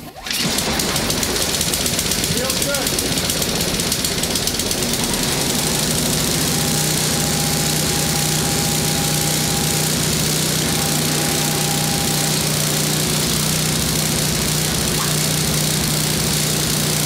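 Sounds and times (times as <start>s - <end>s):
snowblower engine running: 0.1s - 17.0s.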